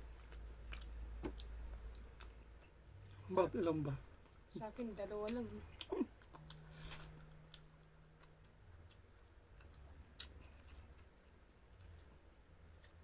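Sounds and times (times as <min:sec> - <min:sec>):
person chewing: 0:00.0 - 0:03.3, 0:05.7 - 0:13.0
faint low hum: 0:00.0 - 0:13.0.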